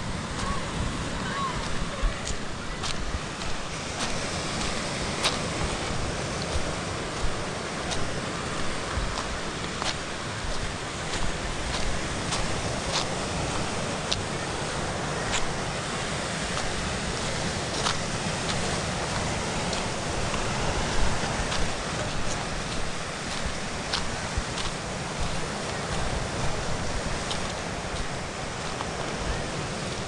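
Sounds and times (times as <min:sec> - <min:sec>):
surf washing over rocks: 0:00.0 - 0:30.0
wind rumbling on microphone: 0:00.0 - 0:30.0
footsteps on gravel: 0:01.5 - 0:14.3, 0:16.5 - 0:30.0.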